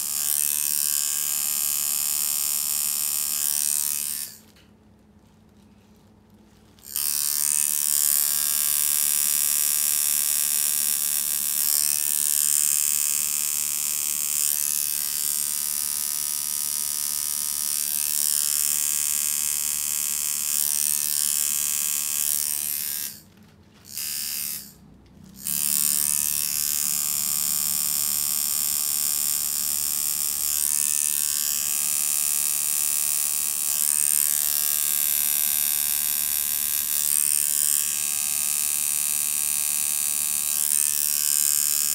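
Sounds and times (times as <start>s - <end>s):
tattoo machine buzzing: 0.0s - 4.5s, 6.8s - 41.9s.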